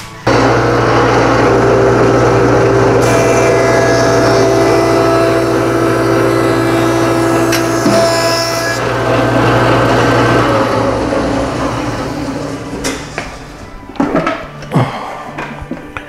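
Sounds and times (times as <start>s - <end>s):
jointer cutting wood: 0.2s - 13.9s
machine motor running and winding down: 0.3s - 13.8s.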